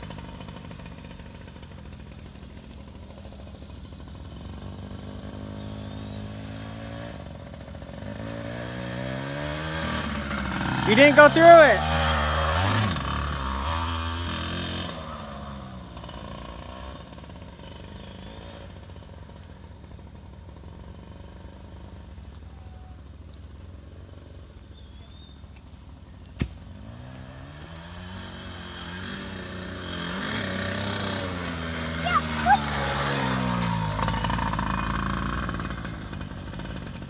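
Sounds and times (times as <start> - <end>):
dirt bike engine passing: 0.0 - 37.0.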